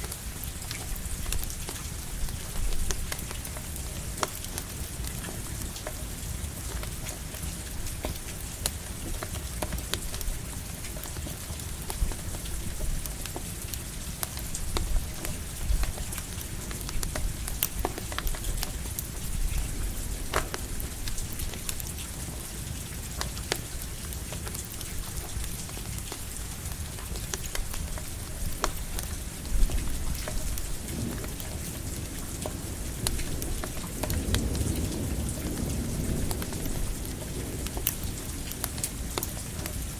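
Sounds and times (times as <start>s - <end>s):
campfire crackles: 0.0s - 39.9s
steady rain: 0.0s - 39.9s.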